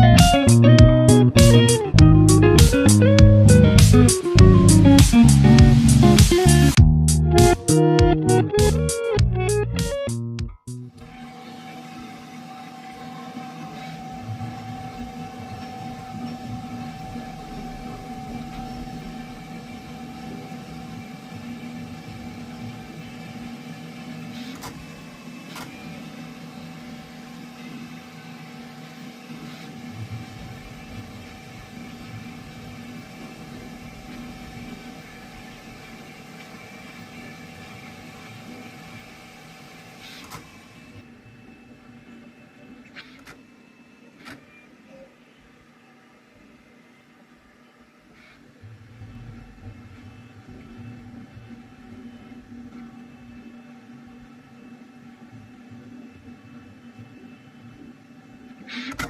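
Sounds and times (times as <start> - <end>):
printer fans and motors humming: 0.0 - 10.0, 10.9 - 59.0.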